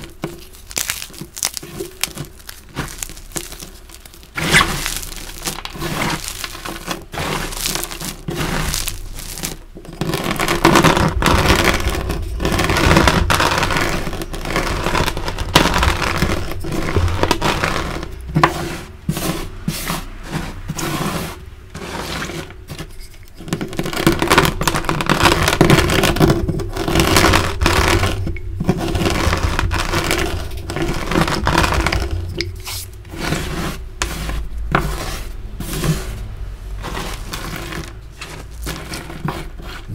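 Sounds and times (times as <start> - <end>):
hands scraping and crunching chalk: 0.0 - 39.9.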